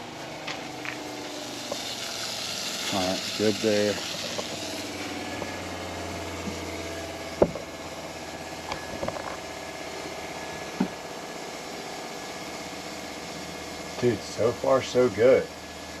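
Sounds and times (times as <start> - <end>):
electric water pump running: 0.0 - 16.0.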